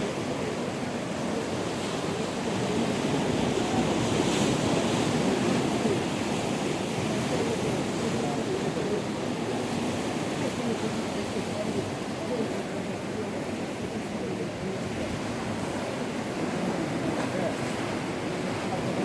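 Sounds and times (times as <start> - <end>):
sea surf washing ashore: 0.0 - 19.0.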